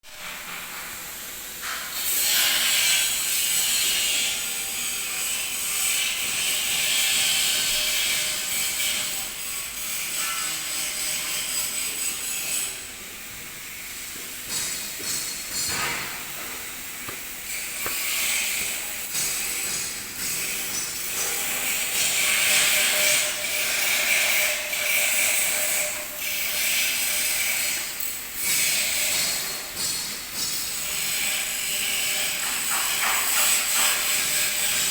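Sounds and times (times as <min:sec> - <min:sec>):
welding arc crackling and hissing: 0:00.1 - 0:34.9.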